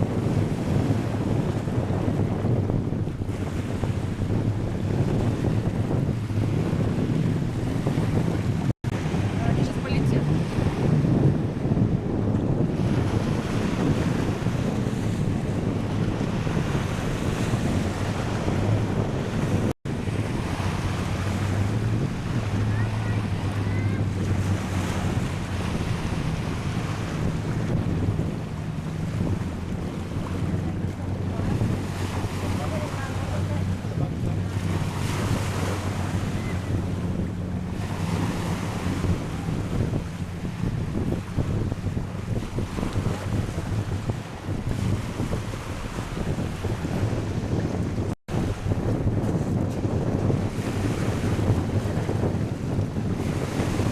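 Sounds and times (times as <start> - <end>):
sea surf washing on beach: 0.0 - 53.9
wind buffeting microphone: 0.0 - 53.9.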